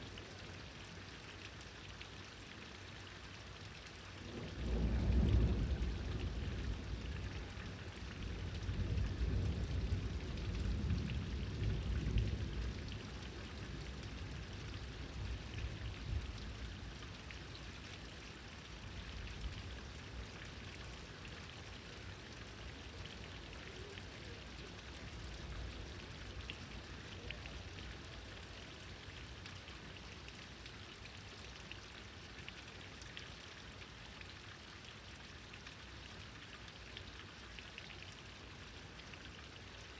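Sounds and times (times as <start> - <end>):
steady rain with drops striking: 0.0 - 39.9.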